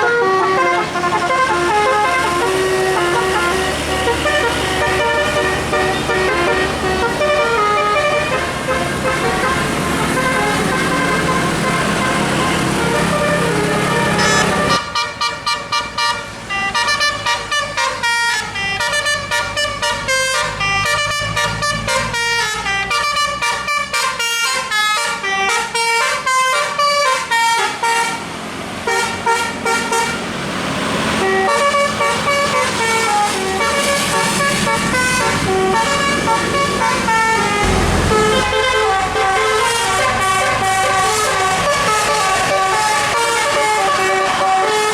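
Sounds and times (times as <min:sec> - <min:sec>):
musical bus air horn tune: 0:00.0 - 0:30.2, 0:31.1 - 0:44.9.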